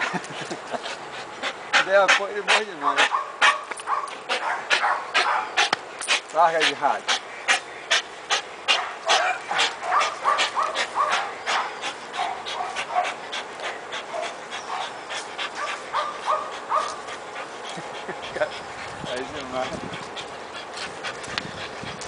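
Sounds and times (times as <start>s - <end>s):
dog breathing hard: 0.0s - 22.0s.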